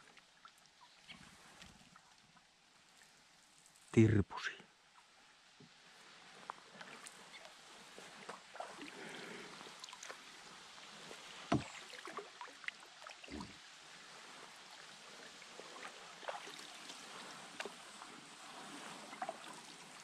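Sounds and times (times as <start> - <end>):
paddle splashes and dripping: 0.0 - 3.9, 4.7 - 20.0.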